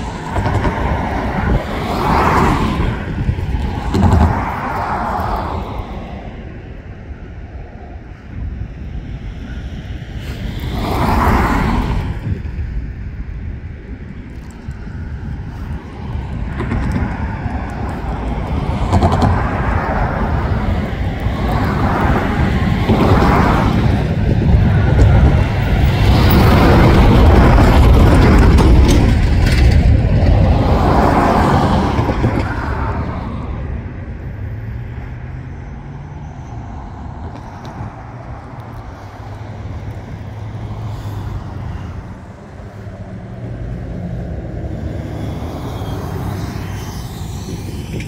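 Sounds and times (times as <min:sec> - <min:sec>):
deep rumble of engines and wheels: 0:00.0 - 0:48.0
freight train passing: 0:00.0 - 0:48.0.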